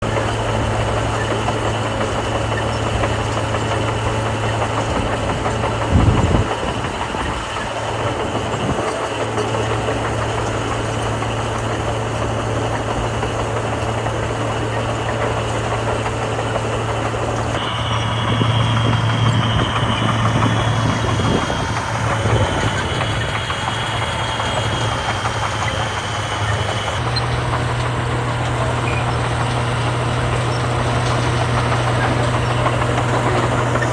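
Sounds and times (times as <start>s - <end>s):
heavy machinery diesel engine: 0.0s - 33.9s.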